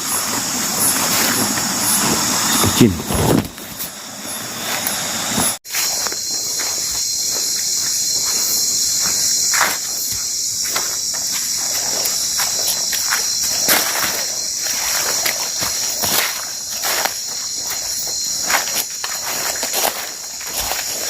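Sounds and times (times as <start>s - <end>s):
footsteps on a slippery trail: 0.0s - 21.0s
insects droning: 0.0s - 21.0s.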